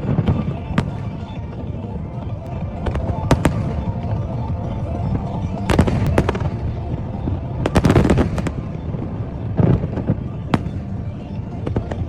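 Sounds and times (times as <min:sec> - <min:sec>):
fireworks bangs: 0:00.0 - 0:12.0
steady low rumble: 0:00.0 - 0:12.0.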